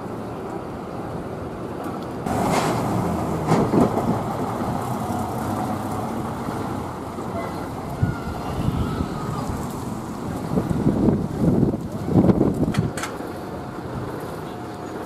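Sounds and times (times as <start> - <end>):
bus engine pulling away: 0.8 - 15.0.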